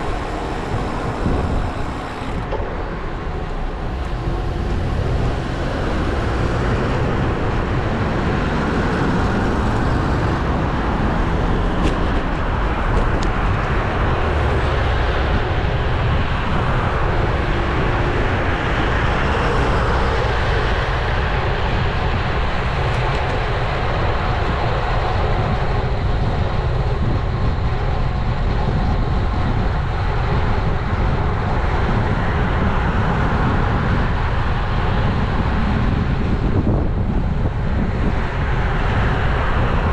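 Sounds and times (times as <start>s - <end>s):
bicycle road noise: 0.0s - 39.9s
traffic noise: 0.0s - 39.9s
wind on camera microphone: 0.0s - 39.9s.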